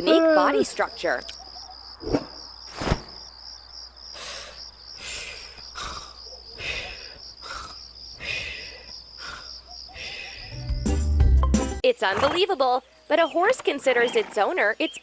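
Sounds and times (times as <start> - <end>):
crickets chirping trill: 0.0 - 15.0.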